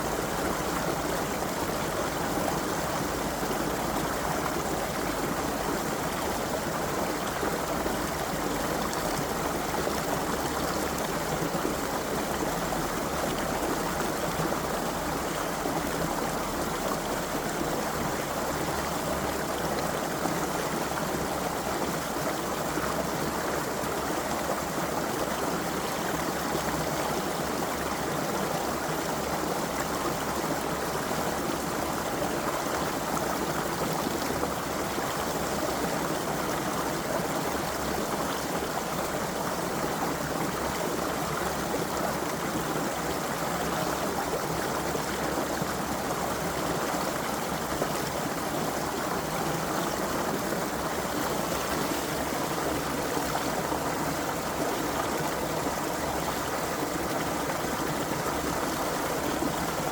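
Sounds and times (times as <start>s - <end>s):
creek water running over rocks: 0.0s - 59.9s.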